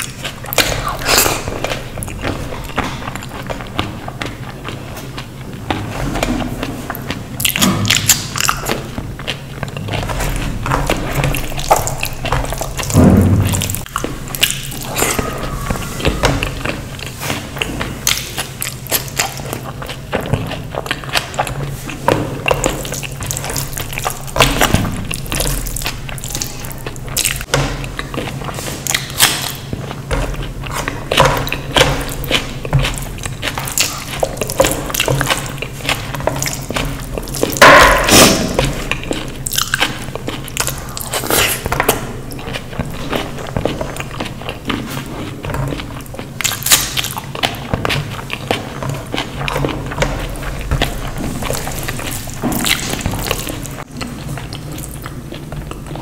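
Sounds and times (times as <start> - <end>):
person chewing and mouth clicks: 0.0 - 56.0
steady low hum: 0.0 - 56.0.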